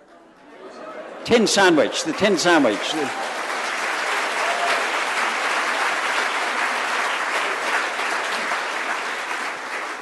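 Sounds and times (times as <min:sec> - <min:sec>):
congregation applauding: 0:01.2 - 0:10.0.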